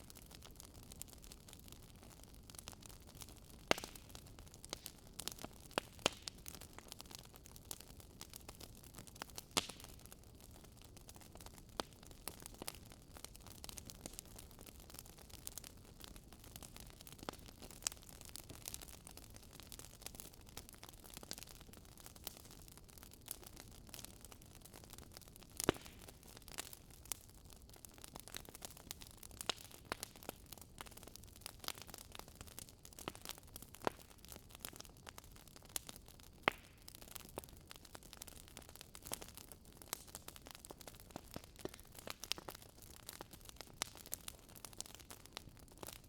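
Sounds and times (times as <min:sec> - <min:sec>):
wood fire crackling and popping: 0:00.0 - 0:46.0.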